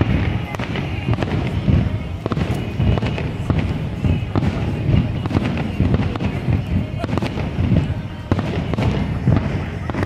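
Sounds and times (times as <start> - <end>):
fireworks bangs and booms: 0.0 - 10.0.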